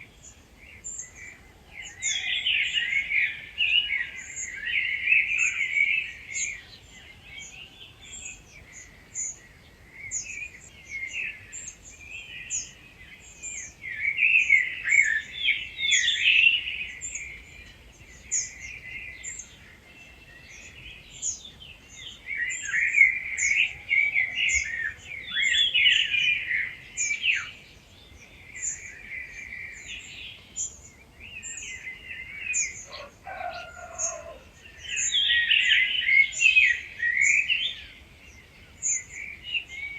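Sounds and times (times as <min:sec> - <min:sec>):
songbirds warbling: 0:00.0 - 0:39.9.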